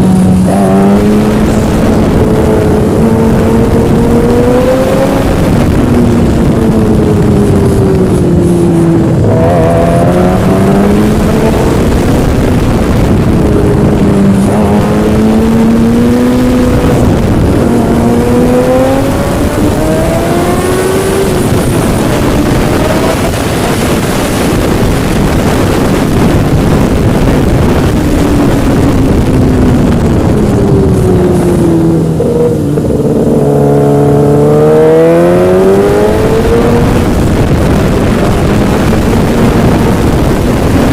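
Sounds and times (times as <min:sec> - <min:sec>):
engine revving: 0:00.0 - 0:40.9
wind or road noise: 0:00.0 - 0:40.9.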